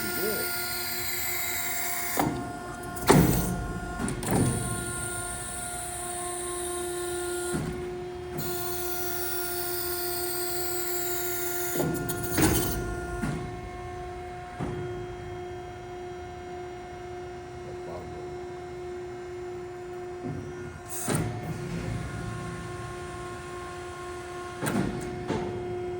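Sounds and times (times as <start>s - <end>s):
machine whine: 0.0s - 25.9s.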